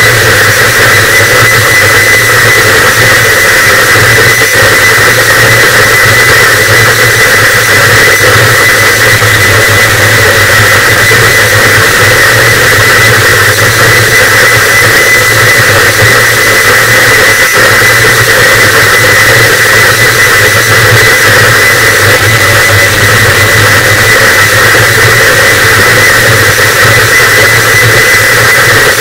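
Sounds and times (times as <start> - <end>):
low hum: 0.0 - 28.5
distorted static noise wall: 0.0 - 29.0.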